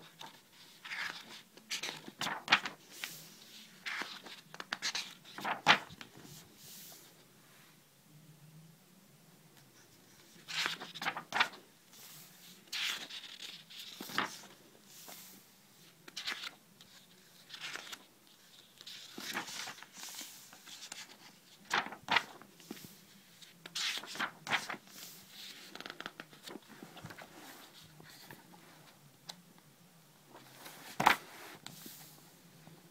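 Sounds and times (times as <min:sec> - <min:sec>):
paper pages rustling: 0:00.0 - 0:07.2, 0:10.2 - 0:15.4, 0:16.1 - 0:29.0, 0:30.3 - 0:32.2.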